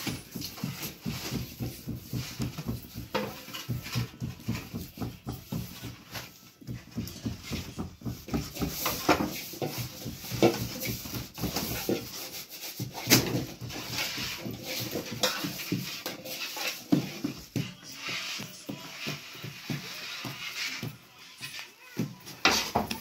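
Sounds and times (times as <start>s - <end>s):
fingertips tapping dough: 0.0s - 23.0s.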